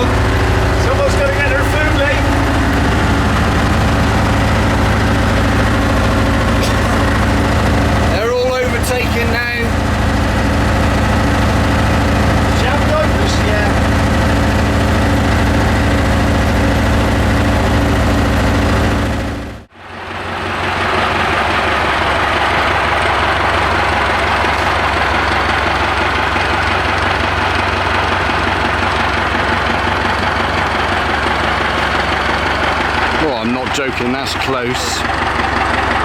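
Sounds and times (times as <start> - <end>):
bus diesel engine running: 0.0 - 36.0.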